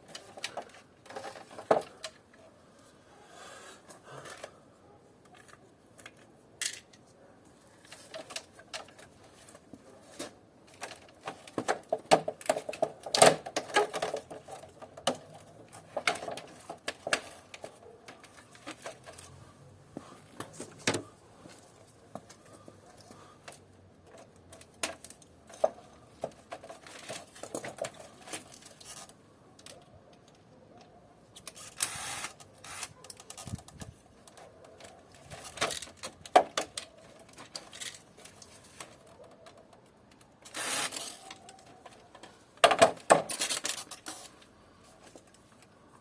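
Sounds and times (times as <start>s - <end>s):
plastic and metal parts clattering: 0.0s - 2.5s, 5.2s - 7.0s, 7.8s - 19.3s, 22.4s - 45.7s.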